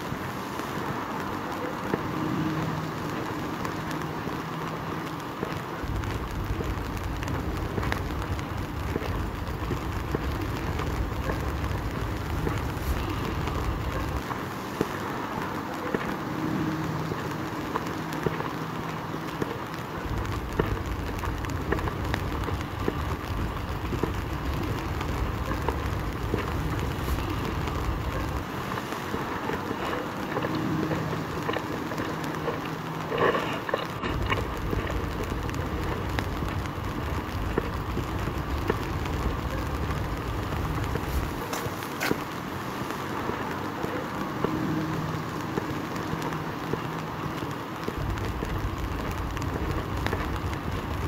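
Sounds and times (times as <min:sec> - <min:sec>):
rain hiss: 0:00.0 - 0:51.0
street traffic: 0:00.0 - 0:51.0
wind rumbling on microphone: 0:00.0 - 0:51.0.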